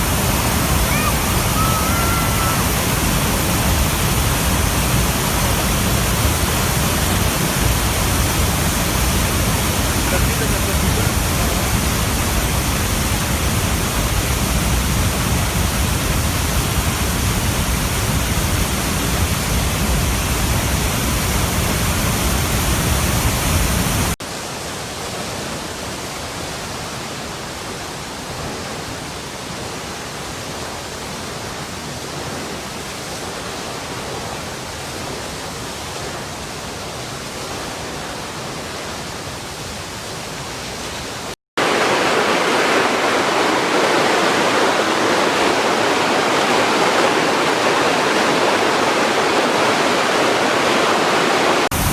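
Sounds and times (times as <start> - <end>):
water rushing: 0.0 - 51.9.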